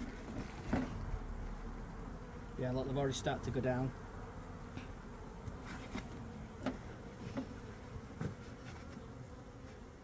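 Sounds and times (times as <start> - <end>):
bees buzzing at hive: 0.0 - 10.0.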